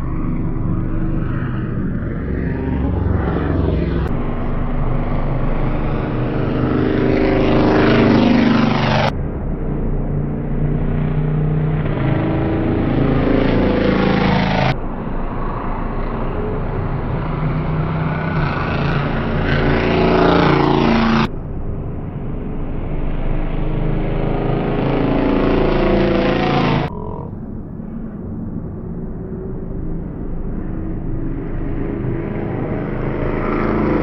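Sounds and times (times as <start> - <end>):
racing motorcycle engines revving: 0.0 - 27.3, 29.3 - 34.0.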